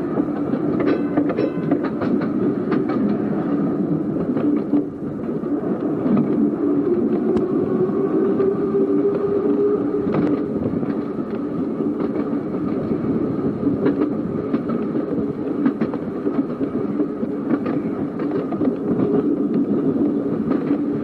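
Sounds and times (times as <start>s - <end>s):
tram motor hum: 0.0s - 21.0s
wheels clicking on rail joints: 0.0s - 21.0s.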